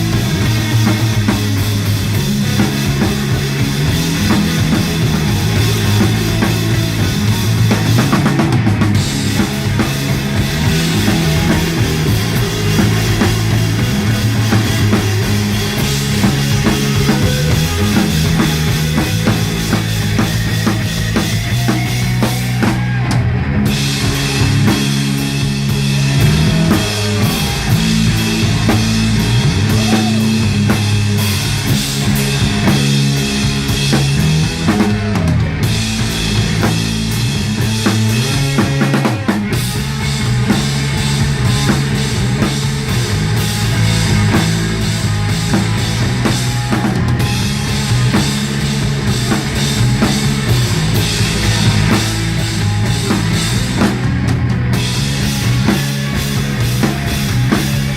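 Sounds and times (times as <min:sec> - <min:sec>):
dense guitar: 0:00.0 - 0:57.9
low bass line: 0:00.0 - 0:57.9
pounding drum kit: 0:00.0 - 0:57.9
rock band playing live: 0:00.0 - 0:57.9.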